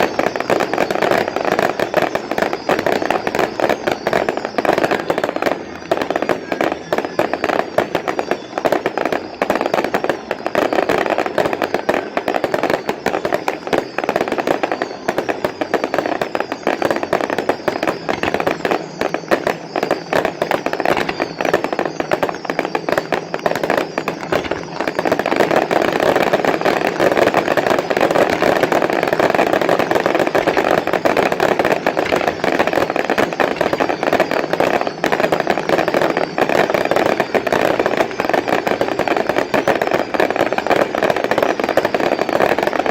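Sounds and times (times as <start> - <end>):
fireworks popping and crackling: 0.0 - 42.9.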